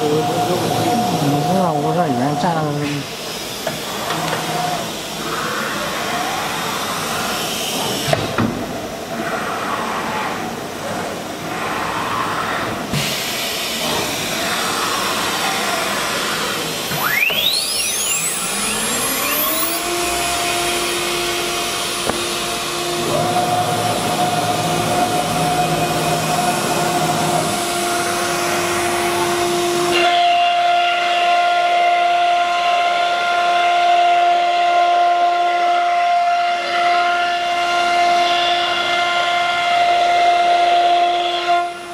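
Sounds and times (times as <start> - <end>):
motor spinning up whine: 0.0 - 40.9
cnc router whirring: 0.0 - 41.9.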